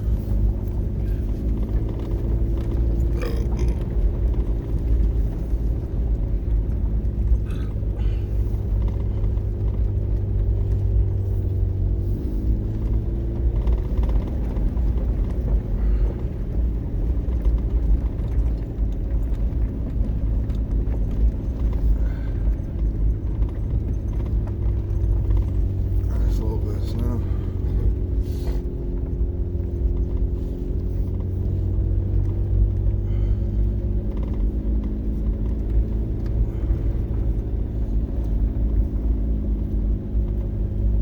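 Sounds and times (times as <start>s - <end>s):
car engine while driving: 0.0s - 41.0s.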